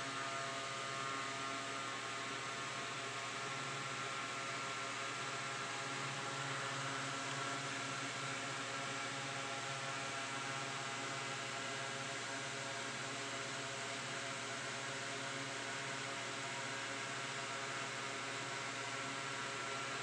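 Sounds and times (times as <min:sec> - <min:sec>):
electrical hum with hiss: 0:00.0 - 0:20.0.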